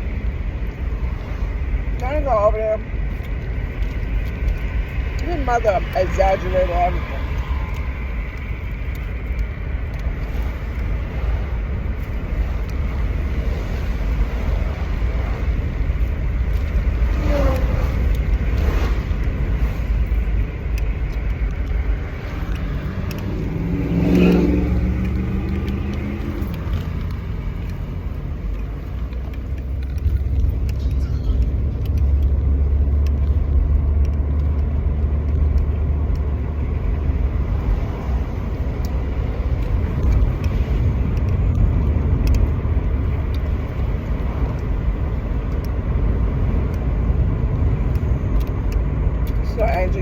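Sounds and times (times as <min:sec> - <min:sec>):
car rumble: 0:00.0 - 0:50.0.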